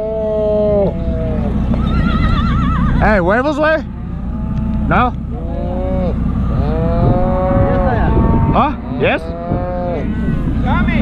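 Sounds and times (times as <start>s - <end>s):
calves bawling: 0.0s - 11.0s.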